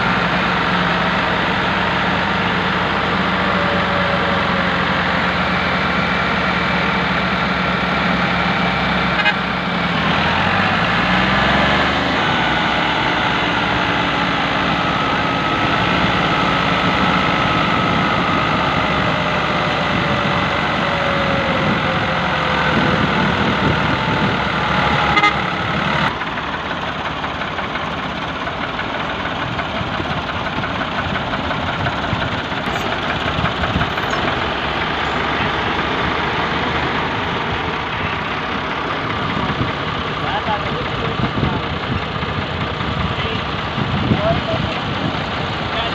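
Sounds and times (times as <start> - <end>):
tractor engines running under load: 0.0 - 45.9.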